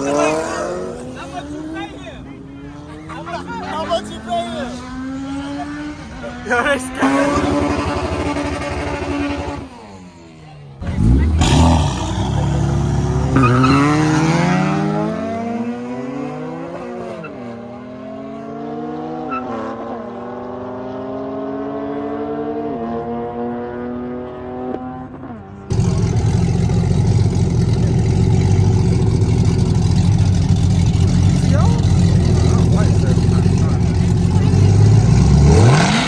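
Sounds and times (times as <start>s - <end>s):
car accelerating through gears: 0.0s - 36.0s.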